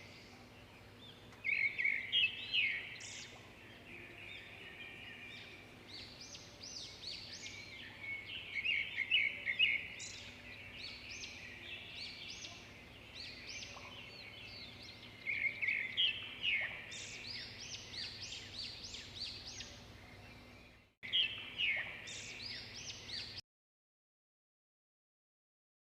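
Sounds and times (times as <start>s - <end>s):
flock of small birds chirping: 0.0s - 23.4s.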